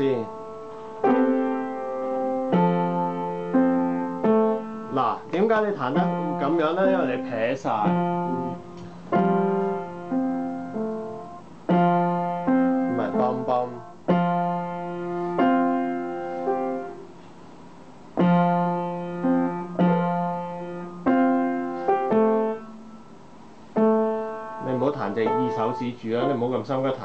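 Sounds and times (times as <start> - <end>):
upright piano chords: 0.0 - 27.0.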